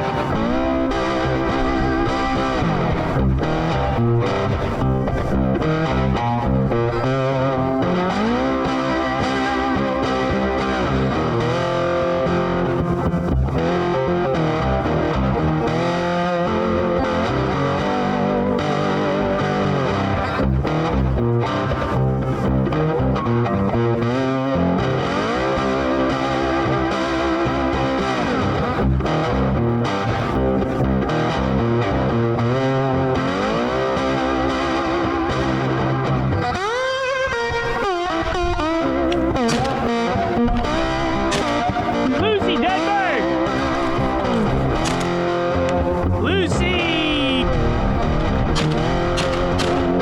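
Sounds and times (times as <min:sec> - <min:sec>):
bass line: 0:00.0 - 0:36.6, 0:37.2 - 0:50.0
distorted electric guitar: 0:00.0 - 0:50.0.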